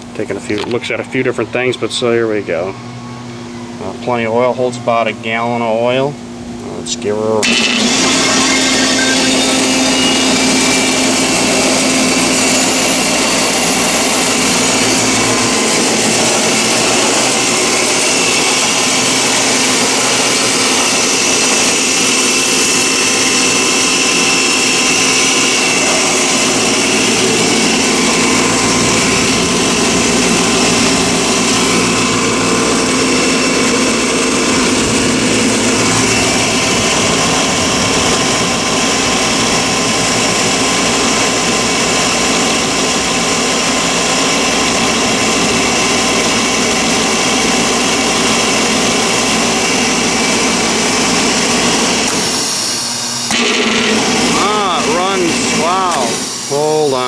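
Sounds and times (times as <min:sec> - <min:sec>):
air compressor humming and whining: 0:00.0 - 0:57.0.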